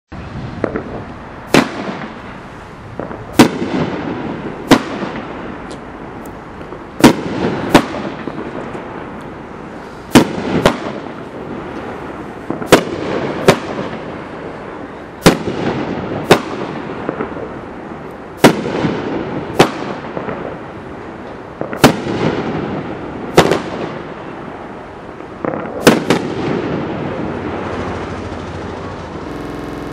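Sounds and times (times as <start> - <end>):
fireworks reports: 0.2 - 17.6, 21.5 - 29.9.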